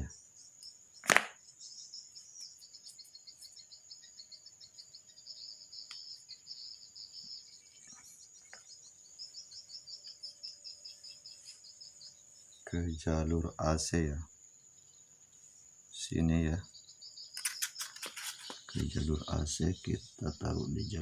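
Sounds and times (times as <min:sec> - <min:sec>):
high insect trill: 0:00.0 - 0:21.0
insects pulsing chirp: 0:00.0 - 0:21.0.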